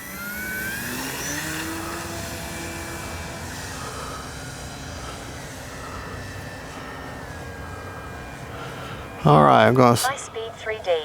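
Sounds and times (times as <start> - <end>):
rc plane motor whining: 0.0 - 11.0.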